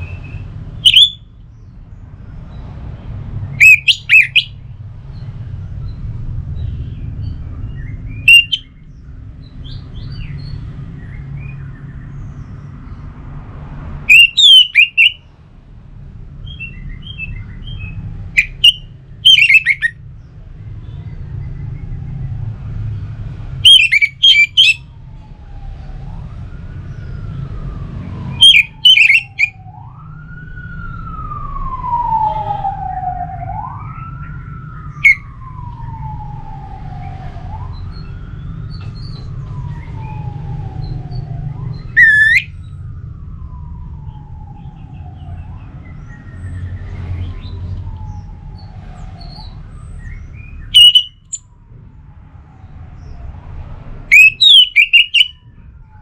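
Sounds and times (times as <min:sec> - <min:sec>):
siren wailing: 0:00.0 - 0:01.4, 0:03.5 - 0:04.6, 0:07.5 - 0:11.8, 0:14.0 - 0:15.2, 0:16.7 - 0:20.1, 0:21.6 - 0:56.0.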